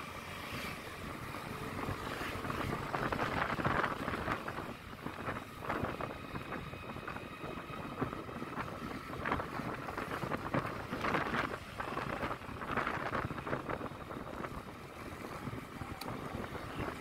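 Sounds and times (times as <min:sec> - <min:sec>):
passing traffic: 0:00.0 - 0:17.0
scooter engine running: 0:00.0 - 0:17.0
wind buffeting microphone: 0:00.6 - 0:17.0.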